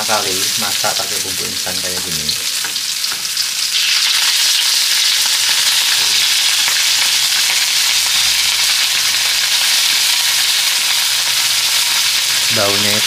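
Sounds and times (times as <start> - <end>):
spice paste sizzling in oil: 0.0 - 13.0.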